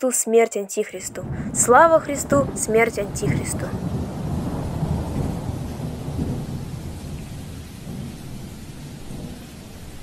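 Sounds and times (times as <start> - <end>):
steady hiss of rain: 0.9 - 10.0
low rumble of thunder: 1.0 - 10.0.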